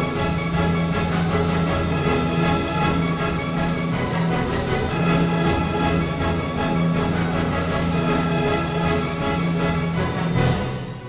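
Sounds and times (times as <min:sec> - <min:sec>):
orchestral music with steady beat: 0:00.0 - 0:11.0.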